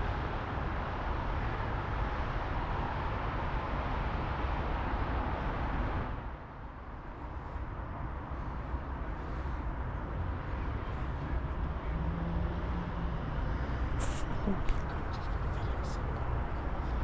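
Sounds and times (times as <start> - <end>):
passing road traffic: 0.0 - 17.0.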